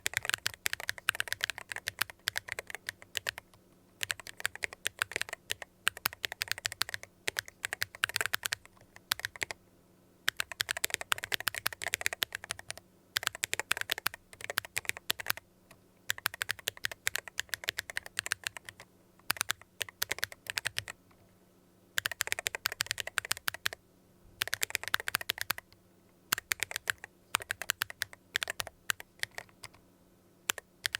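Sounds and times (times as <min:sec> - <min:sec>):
mechanical keyboard typing: 0:00.0 - 0:09.6, 0:10.3 - 0:15.4, 0:16.1 - 0:21.0, 0:22.0 - 0:23.8, 0:24.4 - 0:29.8, 0:30.5 - 0:30.9.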